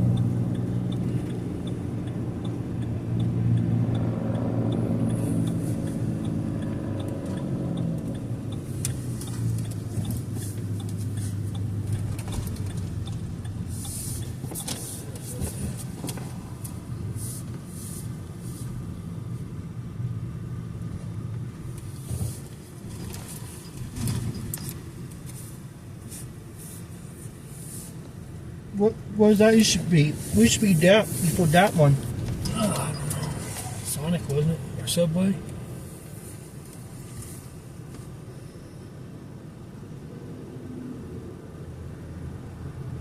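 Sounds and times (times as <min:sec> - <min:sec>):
car engine and road hum: 0:00.0 - 0:43.0.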